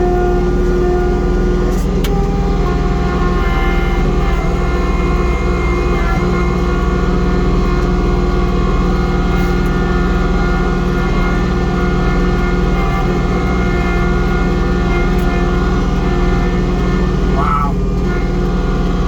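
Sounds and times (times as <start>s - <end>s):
tractor diesel engine drone: 0.0s - 19.0s.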